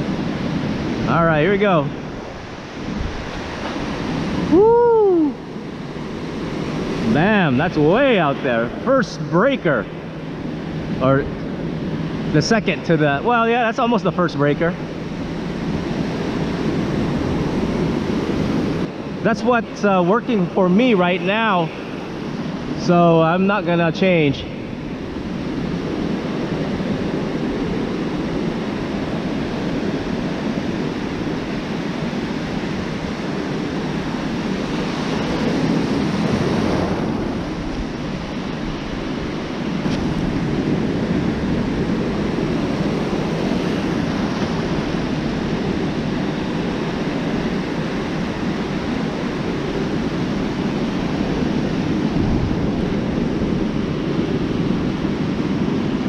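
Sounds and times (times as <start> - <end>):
ocean surf breaking: 0.0 - 56.0
wind on microphone: 0.0 - 56.0.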